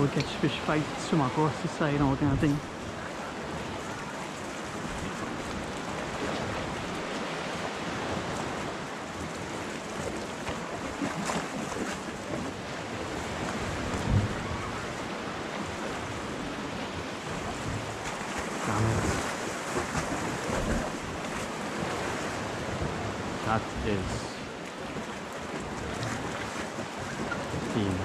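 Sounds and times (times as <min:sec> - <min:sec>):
wind buffeting microphone: 0:00.0 - 0:24.9
waves lapping against rocks: 0:00.0 - 0:28.0.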